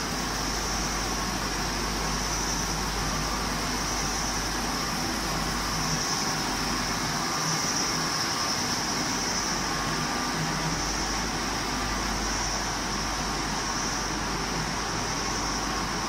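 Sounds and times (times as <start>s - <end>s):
high-pitched hiss: 0.0s - 16.0s
motors and pumps humming: 0.0s - 16.0s.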